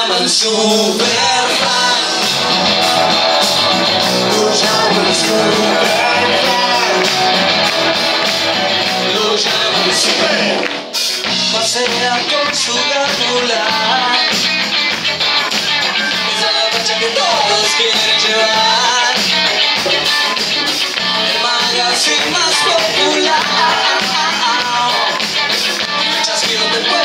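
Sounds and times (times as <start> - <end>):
man singing: 0.0 - 14.6, 16.1 - 19.4, 21.0 - 25.2, 25.9 - 27.0
drums: 0.0 - 27.0
electric guitar: 0.0 - 27.0.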